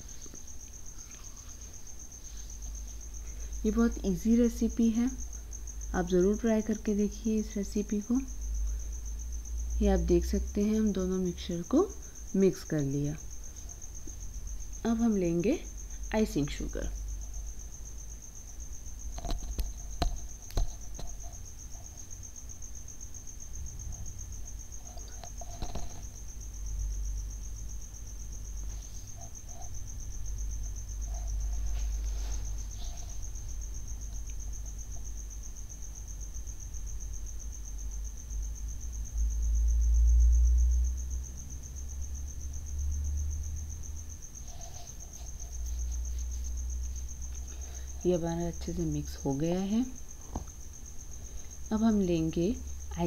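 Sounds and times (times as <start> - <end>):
cricket trilling: 0.0 - 53.0.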